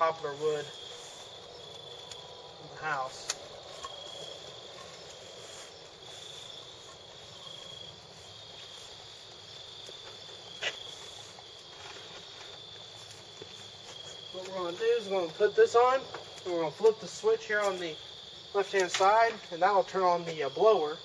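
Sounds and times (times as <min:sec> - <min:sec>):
wood fire crackling: 0:00.0 - 0:20.2
burning wood popping: 0:00.0 - 0:20.4
crickets chirping: 0:00.0 - 0:21.0.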